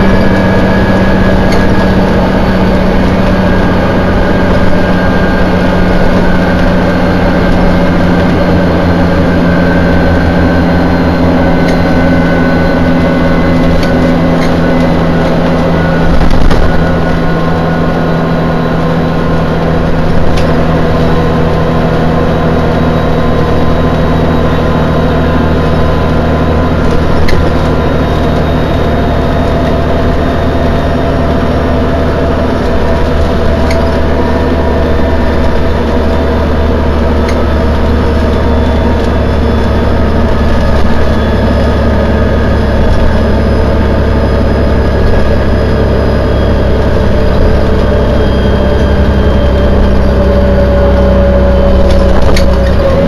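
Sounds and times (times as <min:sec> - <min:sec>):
bus diesel engine running: 0:00.0 - 0:53.0
low road rumble: 0:00.0 - 0:53.0.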